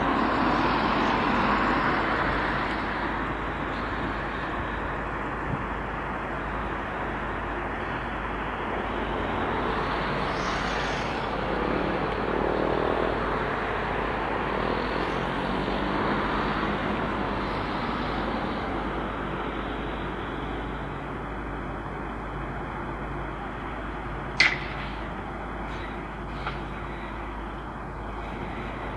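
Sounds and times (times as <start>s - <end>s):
heavy diesel engines running: 0.0s - 28.9s.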